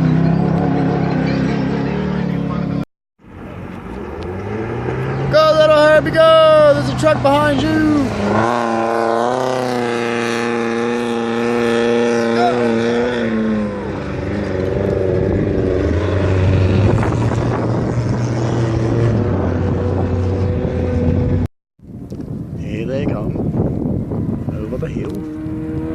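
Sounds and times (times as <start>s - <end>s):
race engine at high revs: 0.0s - 21.5s, 23.5s - 25.9s.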